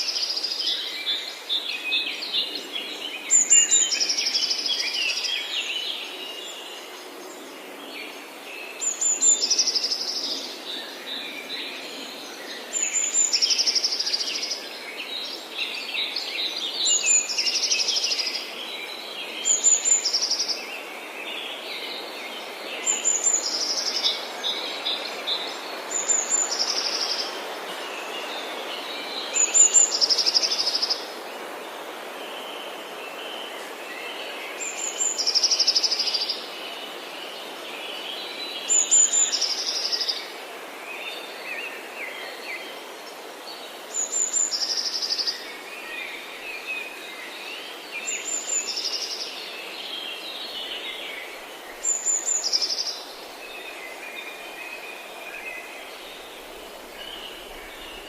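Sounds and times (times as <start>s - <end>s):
birds chirping softly: 0.0s - 58.0s
steady hiss: 0.0s - 58.0s.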